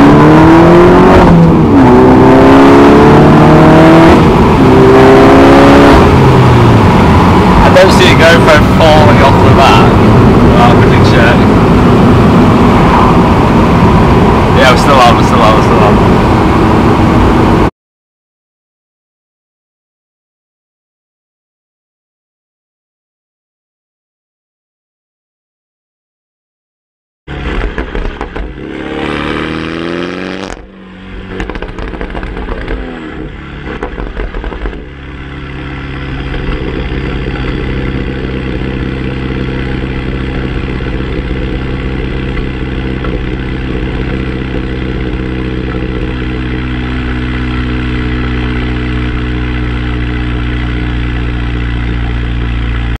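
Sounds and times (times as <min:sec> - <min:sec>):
car engine revving through exhaust: 0:00.0 - 0:17.7, 0:27.3 - 0:53.0.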